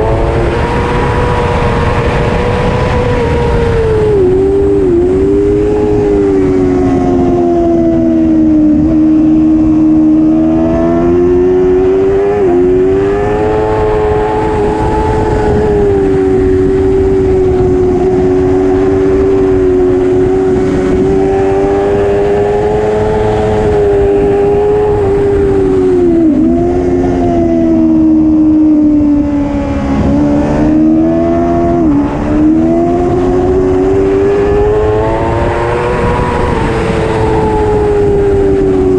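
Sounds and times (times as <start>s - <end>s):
superbike engine at high revs: 0.0s - 38.9s.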